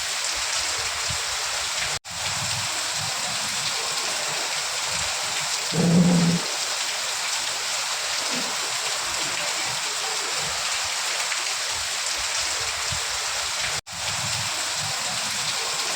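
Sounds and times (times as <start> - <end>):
steady rain hiss: 0.0 - 15.9.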